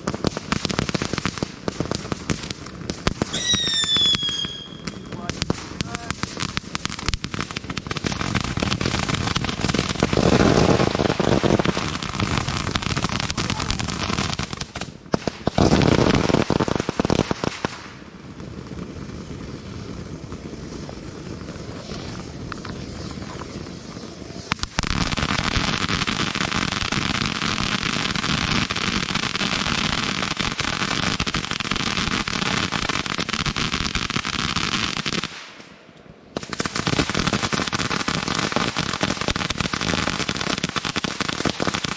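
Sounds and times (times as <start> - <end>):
deep rushes of fireworks: 0.0 - 41.9
fountain fireworks crackling: 0.0 - 41.9.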